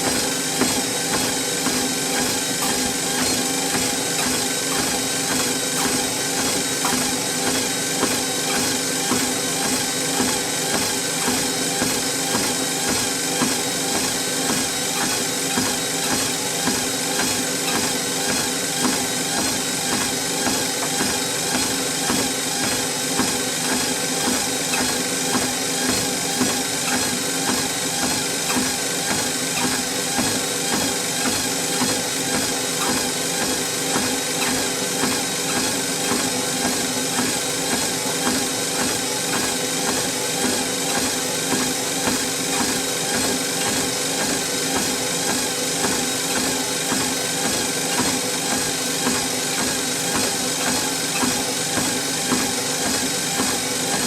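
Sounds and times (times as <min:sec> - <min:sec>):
footsteps on treadmill: 0:00.0 - 0:54.0
treadmill motor and belt hum: 0:00.0 - 0:54.0.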